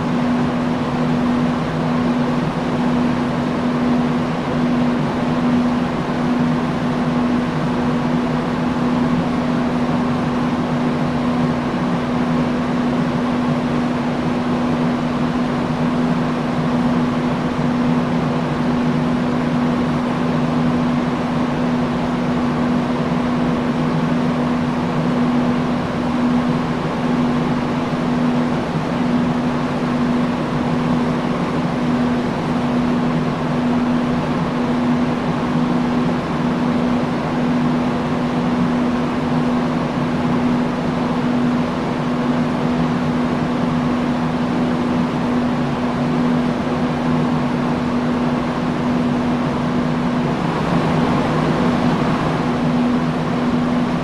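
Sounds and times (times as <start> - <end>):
industrial fan running: 0.0 - 54.0.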